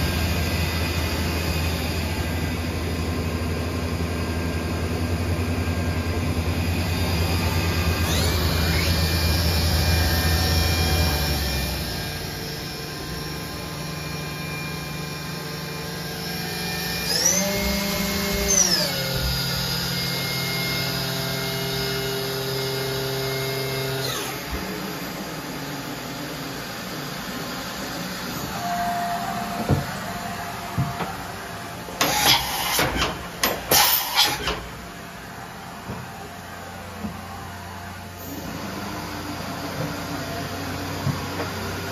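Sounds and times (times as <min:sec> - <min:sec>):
machine whine: 0:00.0 - 0:41.9.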